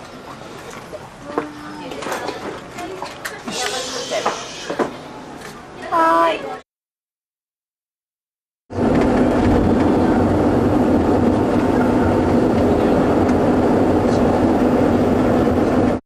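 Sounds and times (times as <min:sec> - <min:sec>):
bus interior engine rumble: 0:00.0 - 0:06.5, 0:08.7 - 0:16.0.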